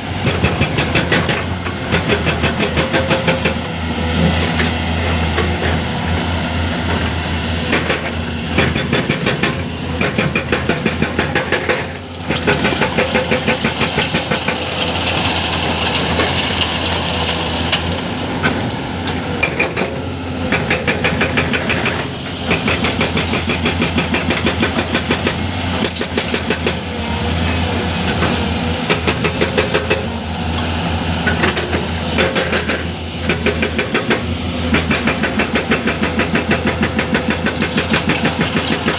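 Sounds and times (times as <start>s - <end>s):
excavator diesel engine drone: 0.0s - 38.9s
hydraulic breaker hammering rock: 0.1s - 38.9s.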